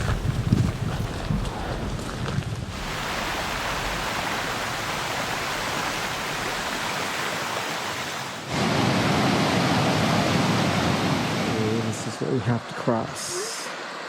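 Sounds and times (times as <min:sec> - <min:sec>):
stream water rushing: 0:01.0 - 0:14.0.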